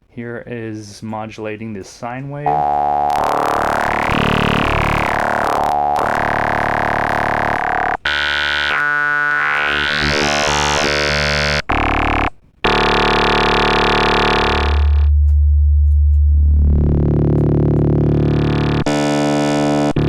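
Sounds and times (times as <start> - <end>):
synthesizer sustained notes: 2.5 - 20.0.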